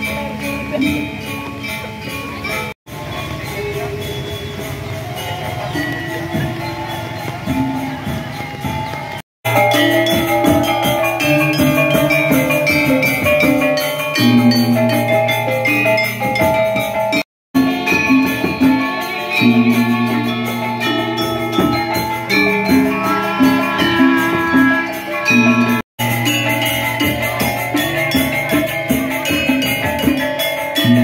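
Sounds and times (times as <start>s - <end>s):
gamelan metallophones struck: 0.0s - 31.0s.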